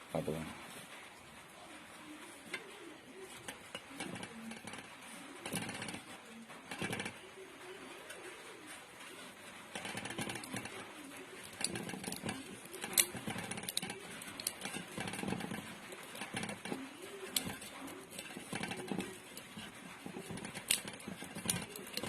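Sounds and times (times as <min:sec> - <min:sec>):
wire clicking and rustling: 0:00.4 - 0:22.0.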